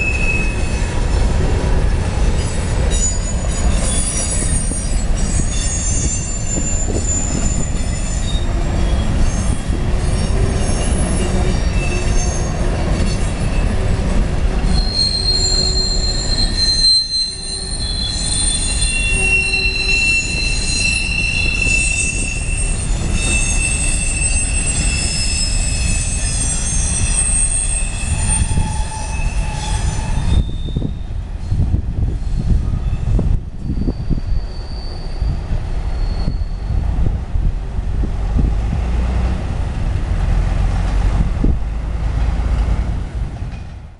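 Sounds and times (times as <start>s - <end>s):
train wheels squealing: 0.0s - 1.3s, 2.0s - 14.0s, 14.6s - 37.1s
train wheels rumbling on rails: 0.0s - 43.9s.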